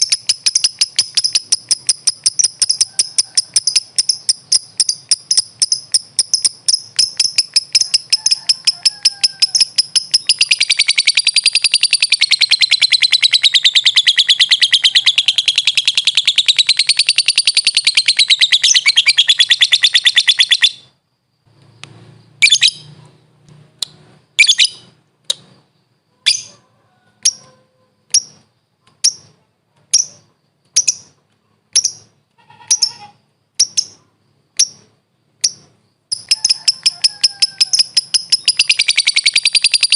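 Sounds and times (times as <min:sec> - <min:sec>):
lovebird chattering trill: 0:00.0 - 0:21.0, 0:24.4 - 0:26.6, 0:27.2 - 0:39.9
sharp high bird chirps: 0:00.0 - 0:23.4, 0:24.2 - 0:26.6, 0:27.2 - 0:39.9.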